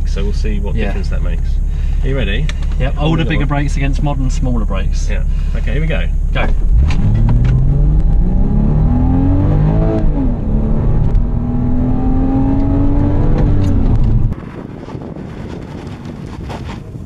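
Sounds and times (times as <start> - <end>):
car engine accelerating: 0.0 - 14.4.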